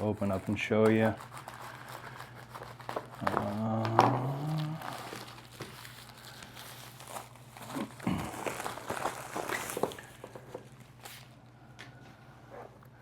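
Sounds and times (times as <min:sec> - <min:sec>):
packaging rustling and crinkling: 0:00.0 - 0:11.4.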